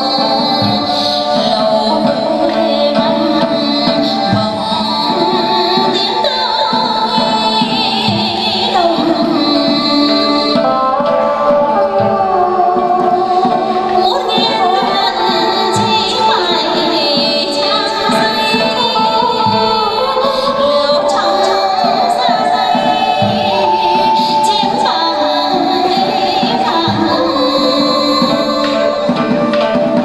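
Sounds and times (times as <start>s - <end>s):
instrumental ensemble: 0.0s - 30.0s
person singing: 0.0s - 30.0s.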